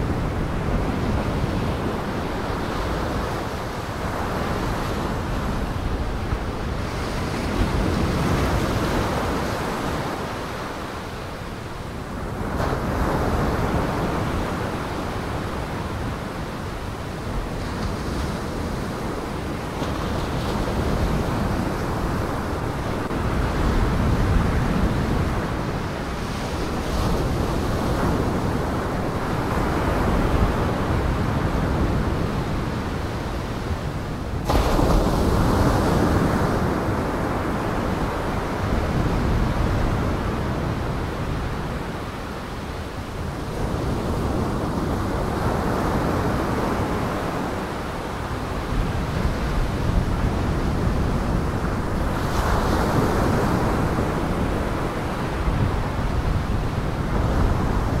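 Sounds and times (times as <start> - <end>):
gale wind: 0.0 - 58.0.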